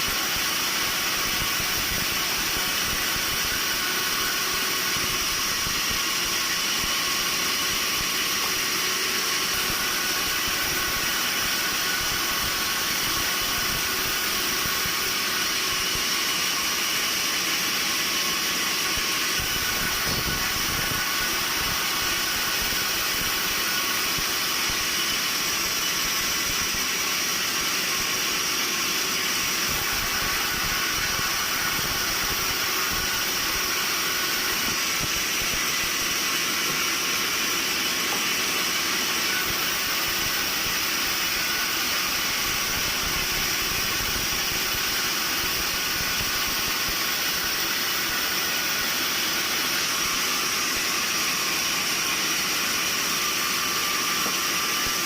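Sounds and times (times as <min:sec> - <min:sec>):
sawmill machinery hiss and whine: 0:00.0 - 0:55.0.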